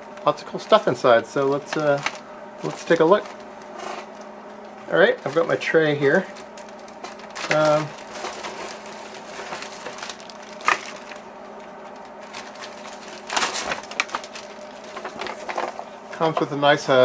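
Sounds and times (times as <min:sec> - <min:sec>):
plastic bag crinkling: 0:00.6 - 0:16.0.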